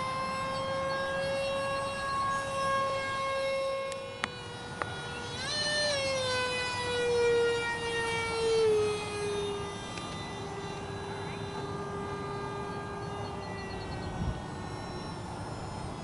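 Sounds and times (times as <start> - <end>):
model jet fan whining: 0.0 - 16.0.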